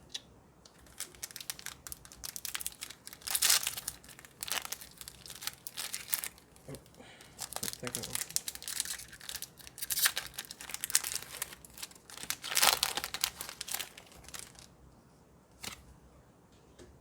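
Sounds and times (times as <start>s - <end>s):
foil wrapper crinkling and tearing: 0.7s - 14.7s.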